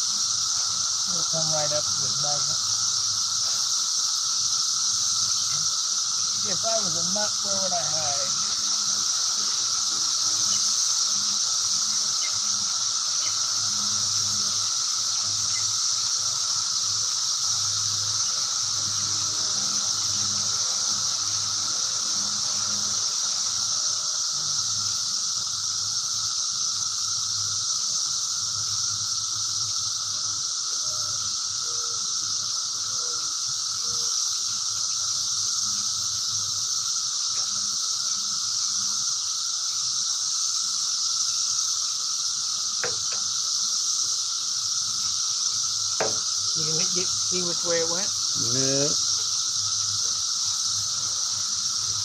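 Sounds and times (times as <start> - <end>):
faint steady drone: 0.0 - 52.0
high-pitched hiss: 0.0 - 52.0.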